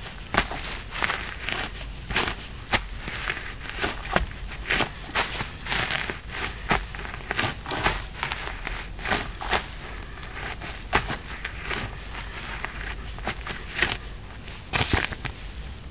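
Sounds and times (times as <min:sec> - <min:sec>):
boots crunching plants and soil: 0:00.0 - 0:15.4.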